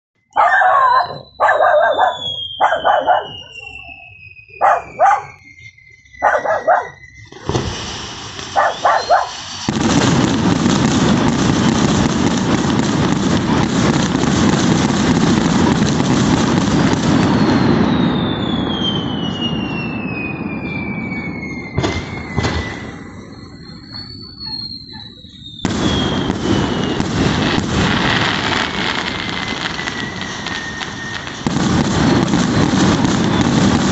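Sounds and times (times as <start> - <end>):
firework falling whistles: 0.2 - 33.9
fireworks crackling rush: 1.0 - 33.9
firework bursts and bangs: 1.2 - 6.4, 7.0 - 33.9.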